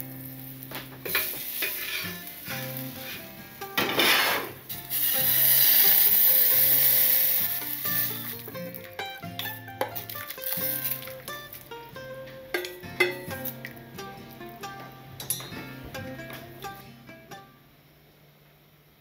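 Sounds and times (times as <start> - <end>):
hot pan sizzling: 0.0 - 16.8
soft background music: 0.0 - 17.6.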